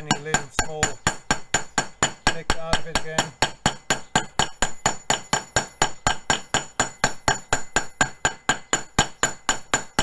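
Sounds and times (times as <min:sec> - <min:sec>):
hammer striking copper on anvil: 0:00.0 - 0:10.0.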